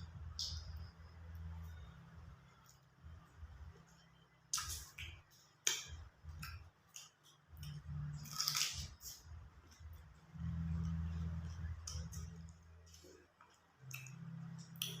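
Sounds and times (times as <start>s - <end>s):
low hum: 0.0s - 5.2s, 7.5s - 15.0s.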